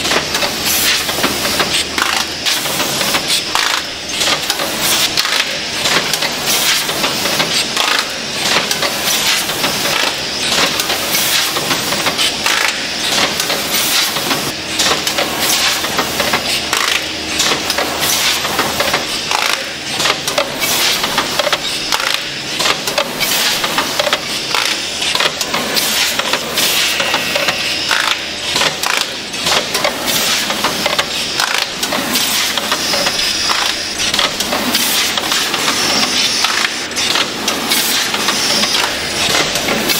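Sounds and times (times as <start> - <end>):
packing machine clattering: 0.0 - 27.0, 27.9 - 39.9
steady mechanical noise: 0.0 - 39.9.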